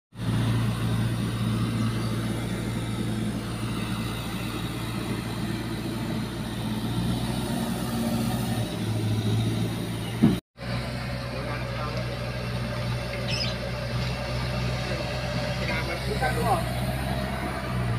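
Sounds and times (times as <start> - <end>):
bulldozer engine droning: 0.1 - 17.9.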